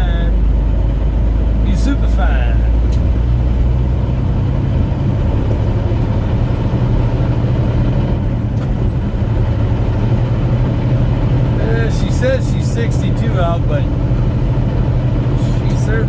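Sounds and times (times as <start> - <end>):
road noise: 0.0 - 16.0
truck diesel engine drone: 0.0 - 16.0.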